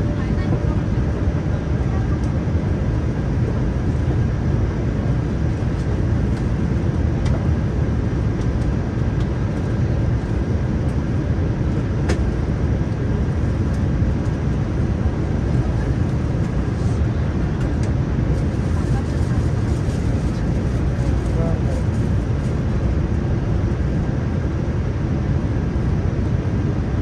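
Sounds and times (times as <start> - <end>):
aircraft cabin engine rumble: 0.0 - 27.0.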